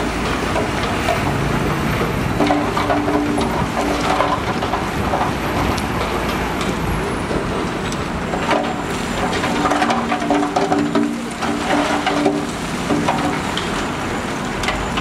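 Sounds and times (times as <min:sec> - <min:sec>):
knocks and clanks: 0:00.0 - 0:13.8.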